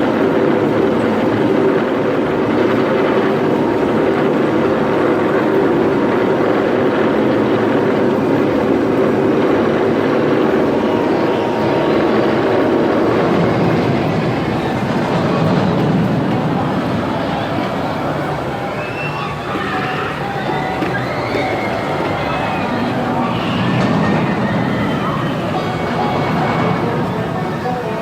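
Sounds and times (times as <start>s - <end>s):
train rumbling on track: 0.0s - 28.0s.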